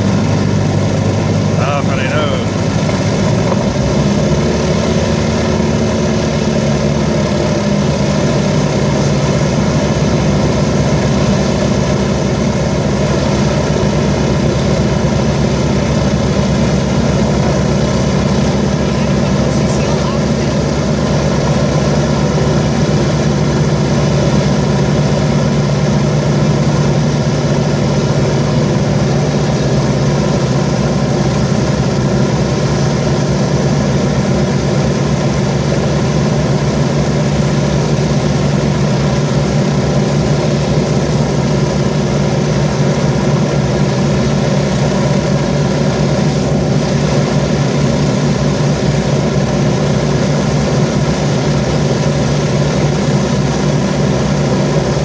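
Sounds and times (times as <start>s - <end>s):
piston aircraft engines droning: 0.0s - 55.0s.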